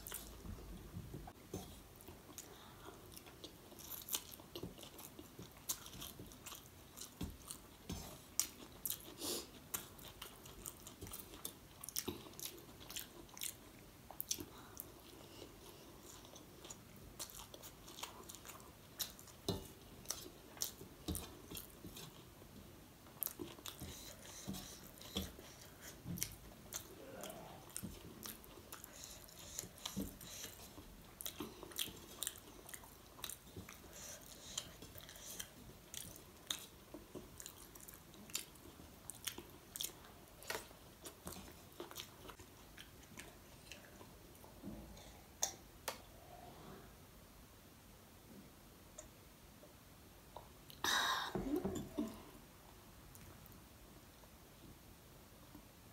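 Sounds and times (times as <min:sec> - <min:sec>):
person chewing noodles: 0:00.0 - 0:00.6, 0:01.6 - 0:46.0.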